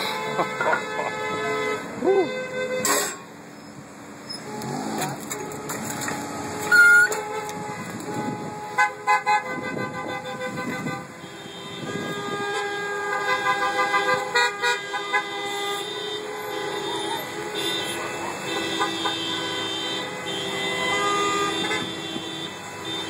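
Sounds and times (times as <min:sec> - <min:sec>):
car horns honking: 0:00.0 - 0:23.0
idling cars hum: 0:00.0 - 0:23.0.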